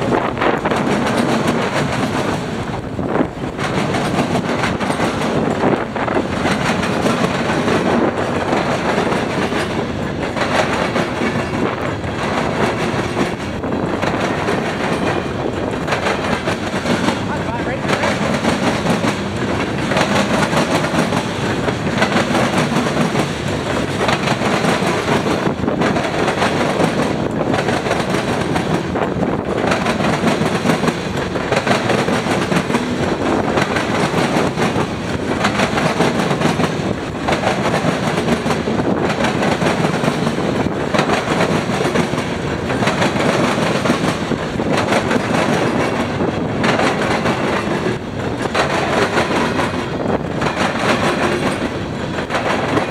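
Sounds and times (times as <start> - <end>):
train wheels clattering over rail joints: 0.0 - 52.9.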